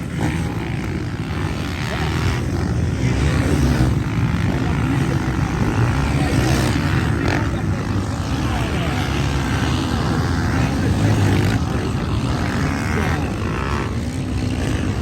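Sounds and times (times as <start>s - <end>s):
motocross motorcycle engines revving: 0.0s - 15.0s.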